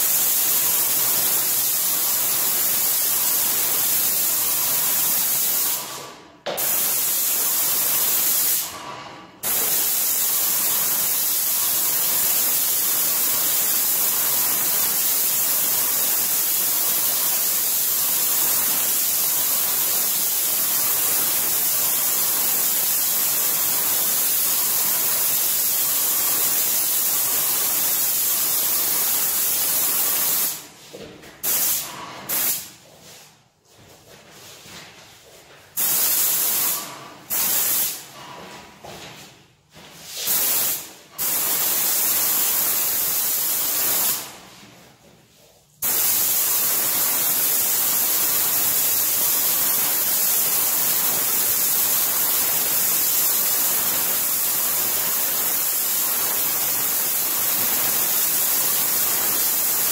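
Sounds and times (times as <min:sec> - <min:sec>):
paint sprayer hissing: 0:00.0 - 0:33.3, 0:35.2 - 0:39.0, 0:40.0 - 0:44.6, 0:45.4 - 0:59.9.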